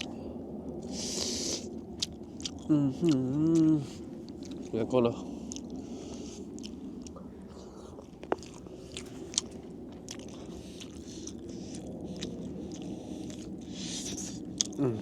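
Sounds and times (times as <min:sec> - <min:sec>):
person chewing food: 0:00.0 - 0:00.2, 0:00.8 - 0:15.0
steady low hum: 0:00.0 - 0:15.0
food crunching: 0:00.8 - 0:15.0.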